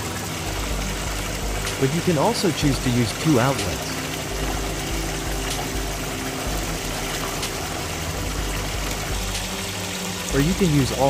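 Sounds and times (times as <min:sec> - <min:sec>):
water pouring from pipes: 0:00.0 - 0:11.0.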